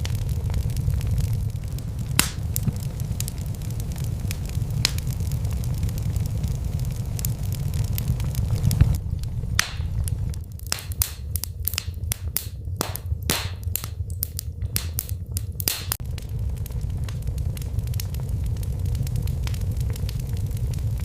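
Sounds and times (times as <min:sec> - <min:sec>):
fire pops and snaps: 0:00.0 - 0:21.0
low rumble of flames: 0:00.0 - 0:21.0.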